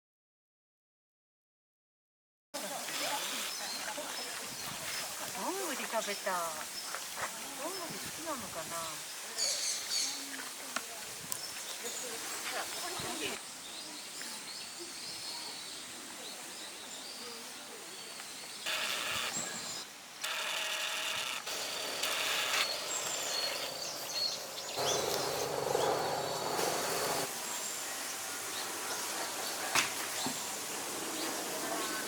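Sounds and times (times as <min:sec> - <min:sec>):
small birds chirping: 0:02.7 - 0:19.9, 0:21.5 - 0:32.0.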